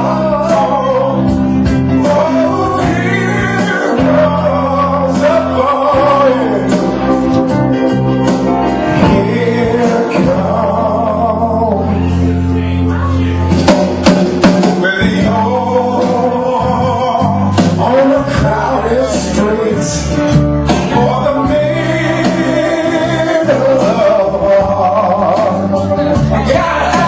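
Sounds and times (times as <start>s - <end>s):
person singing: 0.0s - 27.0s.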